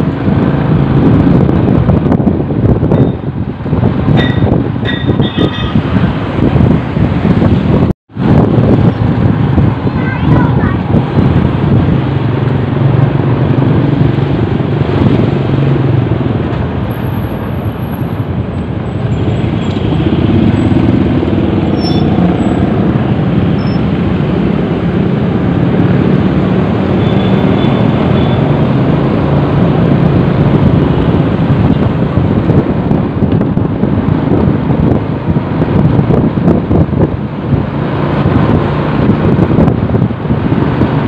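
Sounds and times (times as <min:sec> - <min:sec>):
vehicle engine: 0:00.0 - 0:41.0
wind noise on microphone: 0:00.0 - 0:41.0.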